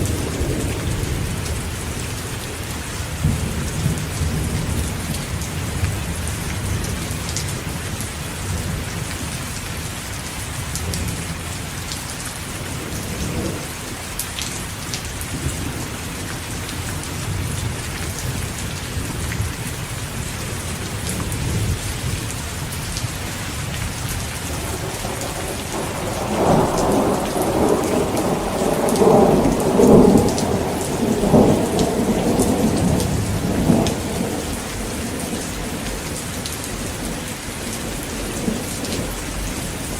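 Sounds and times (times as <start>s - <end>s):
thunder rumbling: 0.0s - 9.4s, 15.2s - 39.9s
heavy rain falling: 0.0s - 39.9s.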